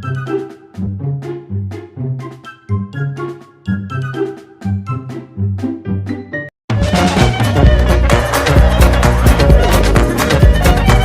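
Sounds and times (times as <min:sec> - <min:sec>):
upbeat music with bass: 0:00.0 - 0:11.0.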